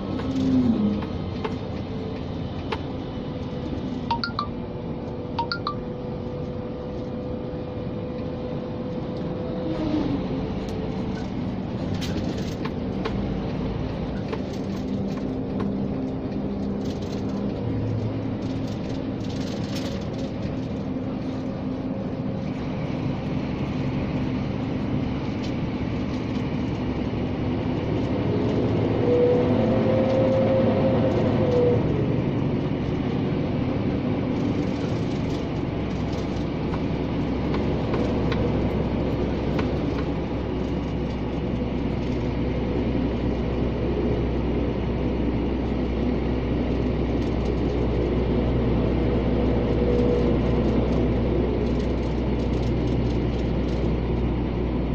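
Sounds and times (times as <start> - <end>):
diesel engine drone: 0.0 - 54.9
road noise: 0.0 - 54.9.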